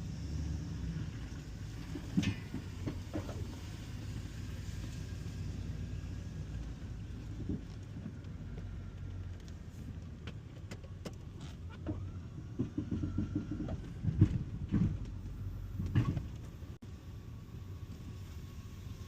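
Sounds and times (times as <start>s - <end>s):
snowplow engine running: 0.0s - 19.0s.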